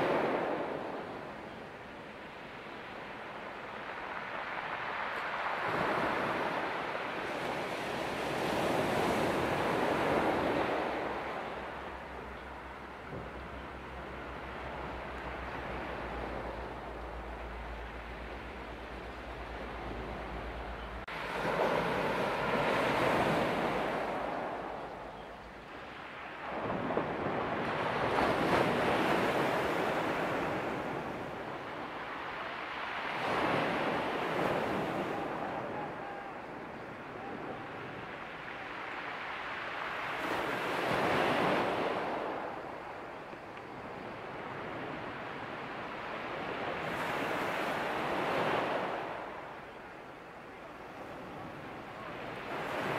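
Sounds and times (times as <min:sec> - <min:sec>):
surf washing onto shore: 0:00.0 - 0:52.9.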